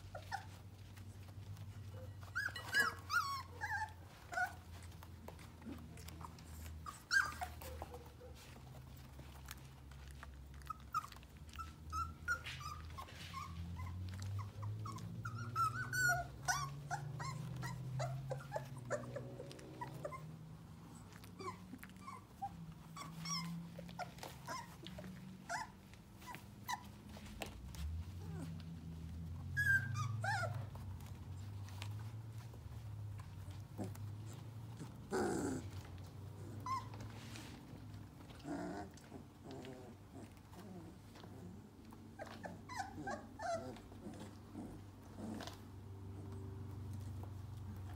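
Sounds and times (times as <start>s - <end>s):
puppies squeaking and yipping: 0.0s - 47.9s.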